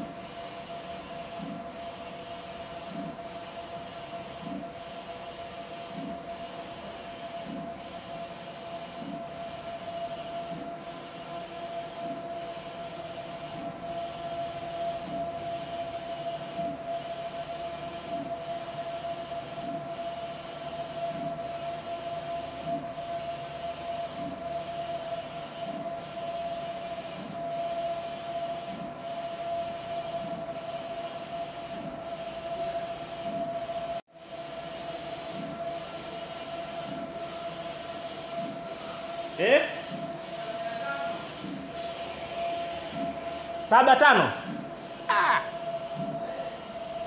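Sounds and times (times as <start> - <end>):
printer carriage whining: 0.0 - 47.0.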